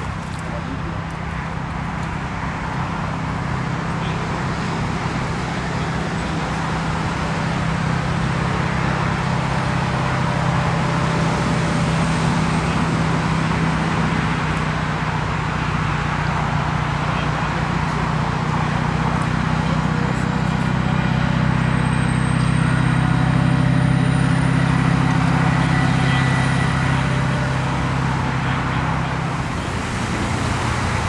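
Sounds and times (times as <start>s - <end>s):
road and wind noise: 0.0s - 31.0s
vehicle engine hum: 0.0s - 31.0s.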